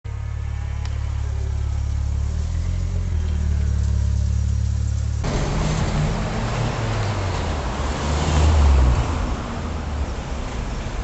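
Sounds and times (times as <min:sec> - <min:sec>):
engine humming: 0:00.0 - 0:11.0
rough engine and road noise: 0:00.0 - 0:11.0.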